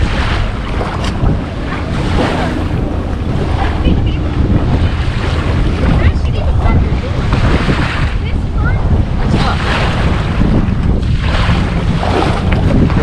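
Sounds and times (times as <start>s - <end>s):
small waves washing ashore: 0.0s - 13.0s
wind buffeting microphone: 0.0s - 13.0s.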